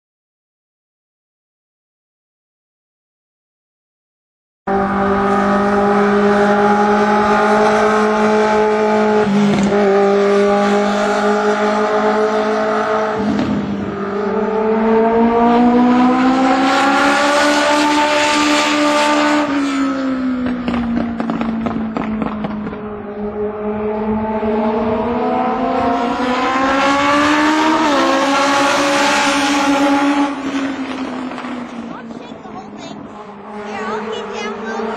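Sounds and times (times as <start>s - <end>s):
race car engine at speed: 4.7s - 34.9s.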